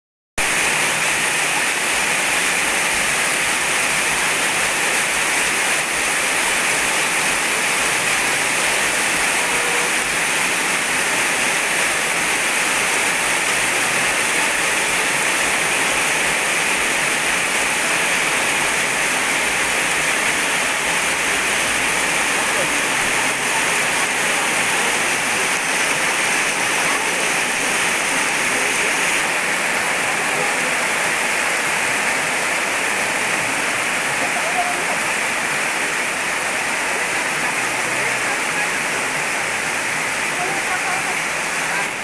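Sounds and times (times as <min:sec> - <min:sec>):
heavy rain on paving: 0:00.4 - 0:42.0.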